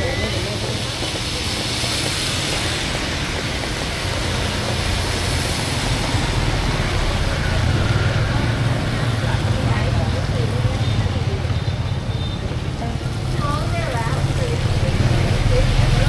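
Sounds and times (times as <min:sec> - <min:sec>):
motorbikes driving past: 0:00.0 - 0:16.0
tyres hissing on wet road: 0:00.0 - 0:16.0.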